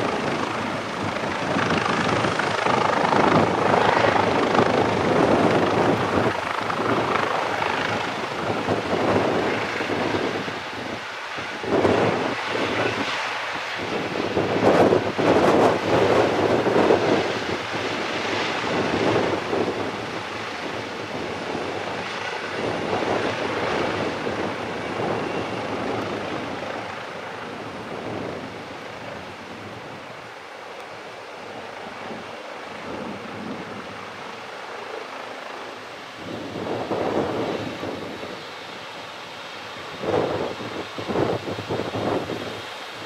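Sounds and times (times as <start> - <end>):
helicopter turbines and rotor: 0.0 - 43.0.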